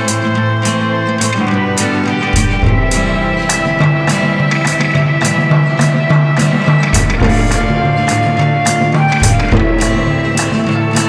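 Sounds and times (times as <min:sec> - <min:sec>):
guitar music with beat: 0:00.0 - 0:11.0.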